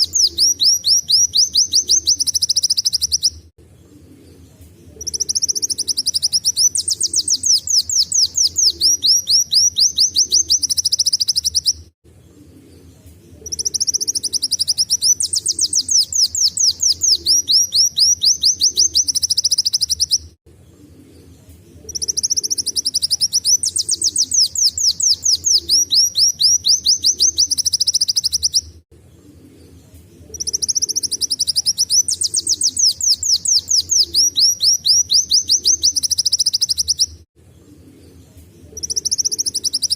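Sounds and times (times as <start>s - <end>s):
sunbird singing high trills: 0.0s - 3.4s, 5.0s - 11.9s, 13.4s - 20.3s, 21.8s - 28.7s, 30.3s - 37.2s, 38.7s - 39.9s.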